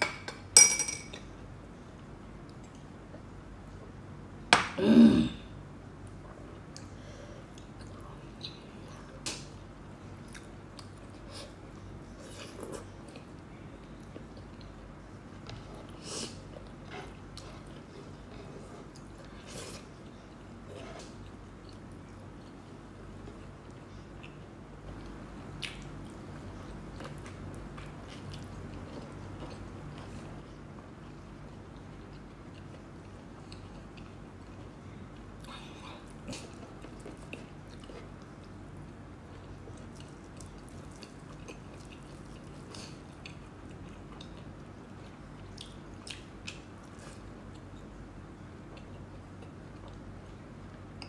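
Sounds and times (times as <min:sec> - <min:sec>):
steady low hum: 0:00.0 - 0:51.0
person chewing with wet mouth sounds: 0:06.0 - 0:51.0.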